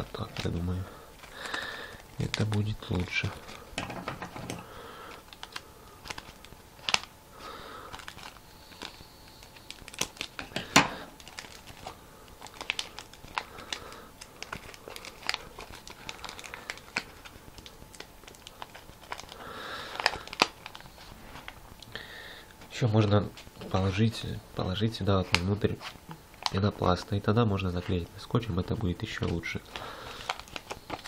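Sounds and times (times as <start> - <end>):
paper and tape crinkling: 0.0 - 21.6, 25.1 - 31.0.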